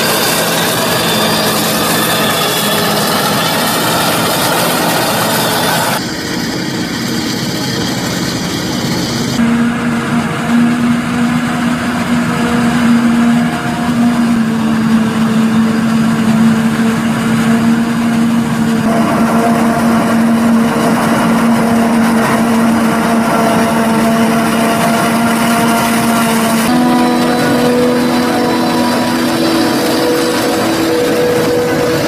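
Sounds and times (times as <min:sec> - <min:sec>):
forage harvester machine drone: 0:00.0 - 0:32.0.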